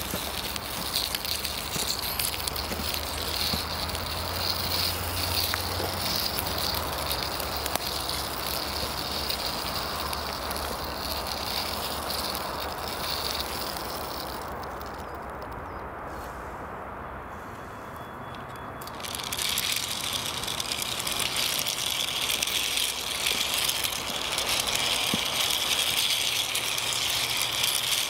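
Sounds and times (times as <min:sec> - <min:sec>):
toy car rolling over leaves: 0:00.0 - 0:15.7, 0:18.3 - 0:28.0.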